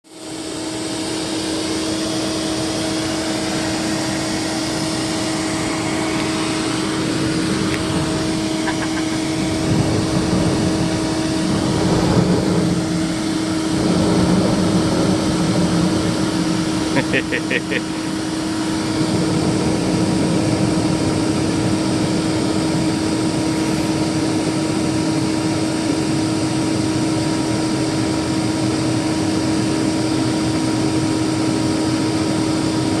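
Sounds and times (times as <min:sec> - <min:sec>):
motor-driven fan running: 0:00.1 - 0:33.0.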